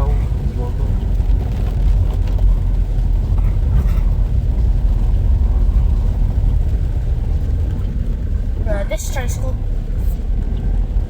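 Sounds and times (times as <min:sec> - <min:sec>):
vehicle low rumble: 0:00.0 - 0:11.0.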